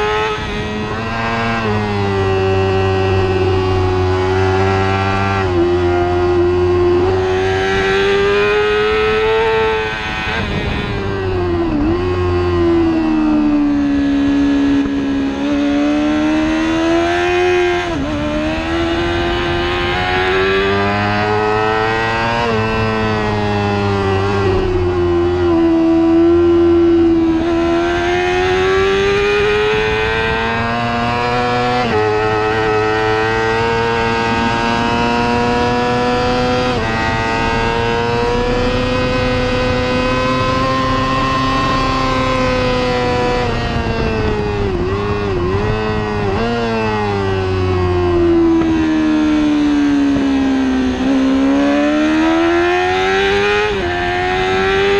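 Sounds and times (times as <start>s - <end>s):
superbike engine at high revs: 0.0s - 54.9s.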